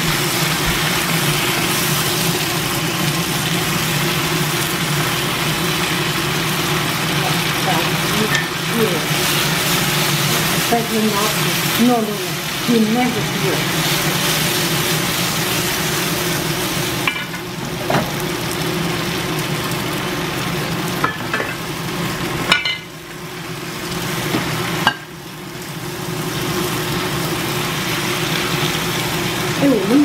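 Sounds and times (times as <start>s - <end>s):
food sizzling in a wok: 0.0s - 30.0s.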